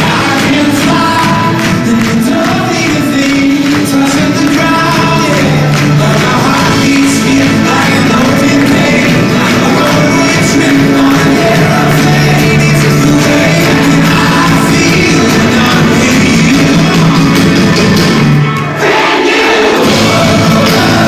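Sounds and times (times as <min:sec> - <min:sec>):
man singing: 0:00.0 - 0:18.0, 0:19.8 - 0:21.0
live band playing: 0:00.0 - 0:21.0.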